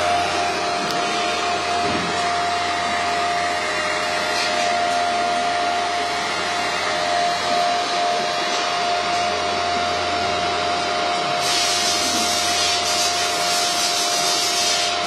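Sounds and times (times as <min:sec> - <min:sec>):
machine whirring with hum: 0:00.0 - 0:15.0.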